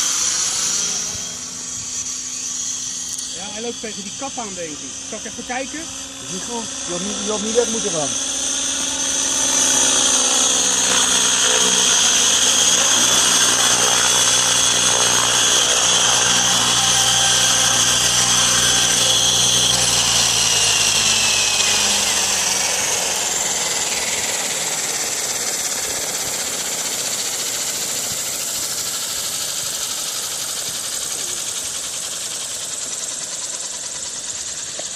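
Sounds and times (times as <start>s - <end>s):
electric helicopter motor whine: 0.0s - 34.9s.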